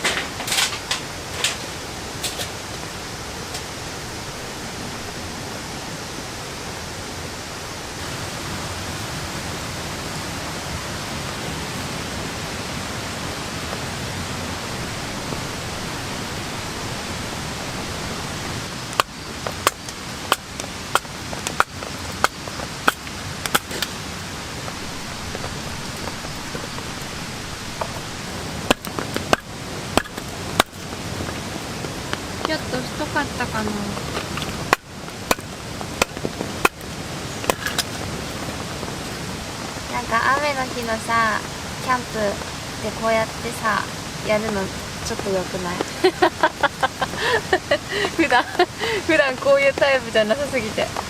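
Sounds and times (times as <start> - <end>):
steady rain hiss: 0.0 - 51.0.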